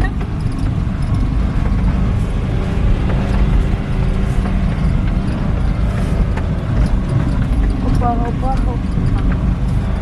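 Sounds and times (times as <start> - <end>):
vehicle engine low rumble: 0.0 - 10.0.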